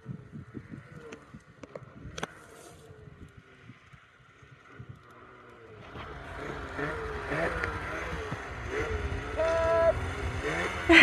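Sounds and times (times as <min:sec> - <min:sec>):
snowmobile engine: 0:00.0 - 0:11.0.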